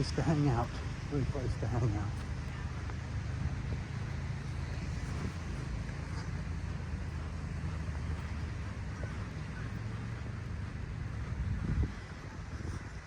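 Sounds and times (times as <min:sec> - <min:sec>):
low engine drone: 0:00.0 - 0:13.0
wind buffeting microphone: 0:00.0 - 0:13.0.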